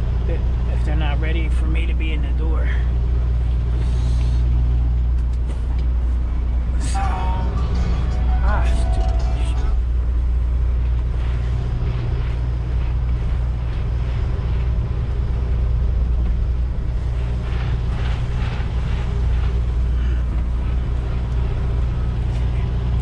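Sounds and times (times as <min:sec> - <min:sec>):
diesel truck engine humming: 0:00.0 - 0:23.0.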